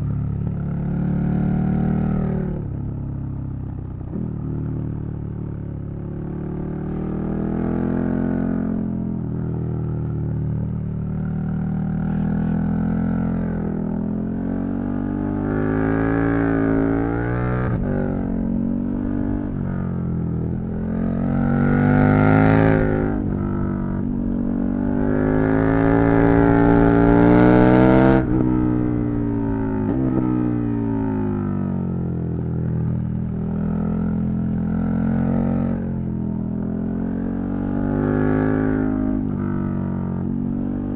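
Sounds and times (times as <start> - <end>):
motorcycle engine revving: 5.6 - 40.9.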